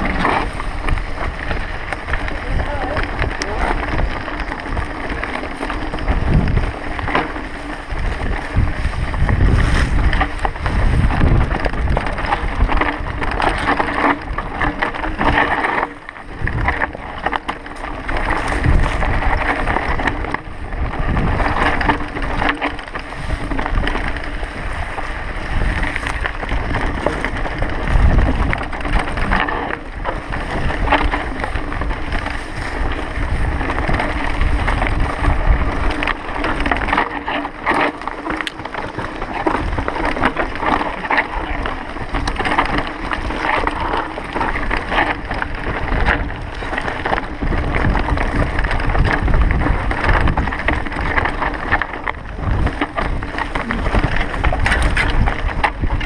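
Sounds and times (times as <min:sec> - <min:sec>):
bike rattling and knocking: 0:00.0 - 0:56.0
tyres rolling over stones: 0:00.0 - 0:56.0
wind rushing over microphone: 0:00.0 - 0:56.0.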